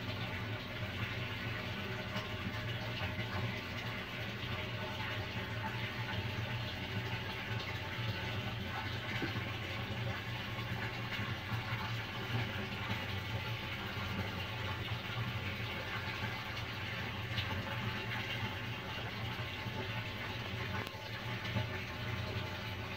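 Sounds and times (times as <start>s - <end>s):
filter pump humming: 0.0s - 22.9s.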